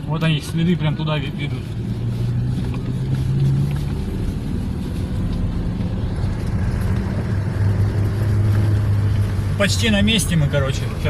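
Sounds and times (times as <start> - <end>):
car engine hum: 0.0 - 11.0.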